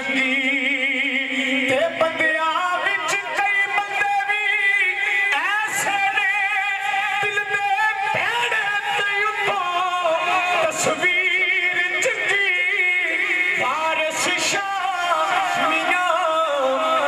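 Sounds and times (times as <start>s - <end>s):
man singing through loudspeaker: 0.0s - 17.0s.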